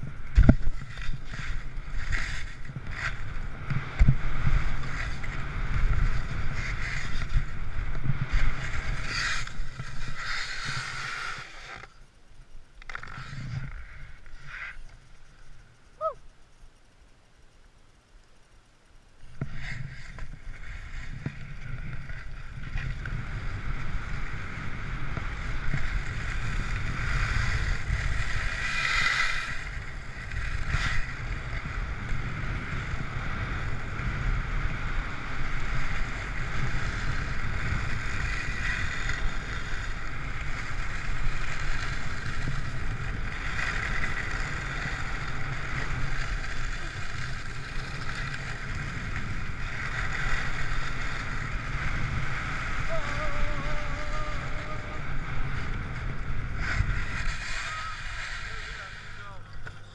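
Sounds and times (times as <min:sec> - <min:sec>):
skis scraping over icy snow: 0:00.0 - 0:12.0, 0:12.8 - 0:15.9, 0:19.4 - 0:59.9
wind rumbling on microphone: 0:00.0 - 0:12.0, 0:19.2 - 0:59.9.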